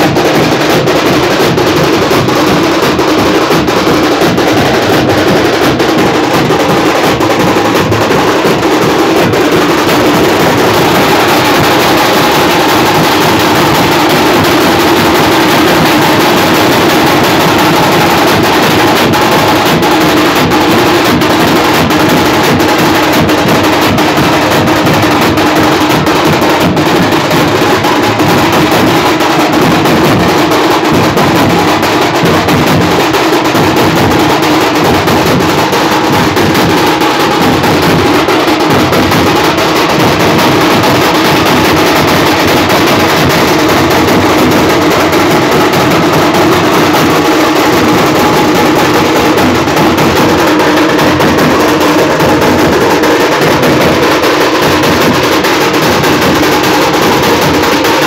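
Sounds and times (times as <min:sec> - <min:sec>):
drums beaten with sticks: 0:00.0 - 0:58.0.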